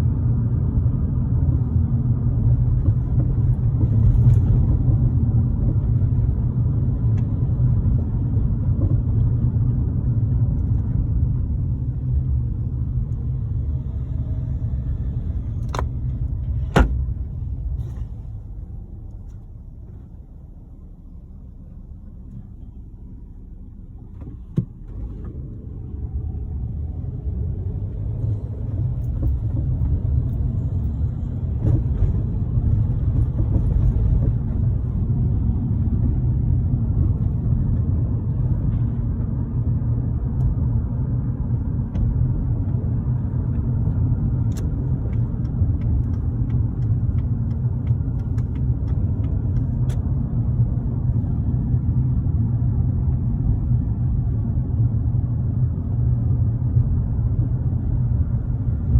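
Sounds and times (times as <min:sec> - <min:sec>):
car driving rumble: 0:00.0 - 0:58.9.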